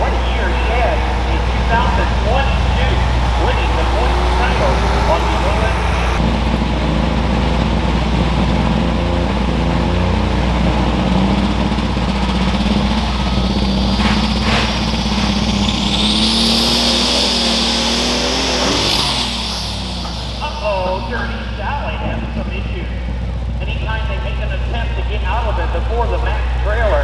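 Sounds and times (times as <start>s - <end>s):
high turbo whine: 0.0s - 27.0s
tractor engine running: 0.0s - 27.0s.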